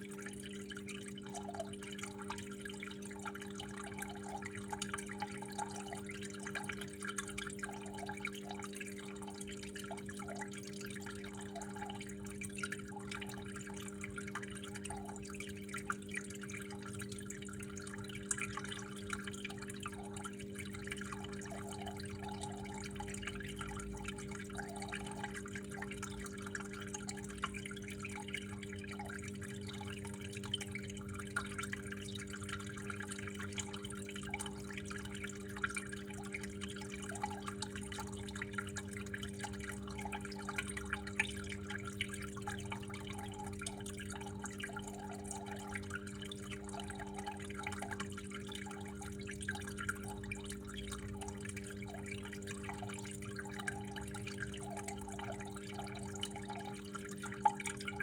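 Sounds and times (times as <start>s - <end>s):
water trickling and dripping: 0.0s - 58.0s.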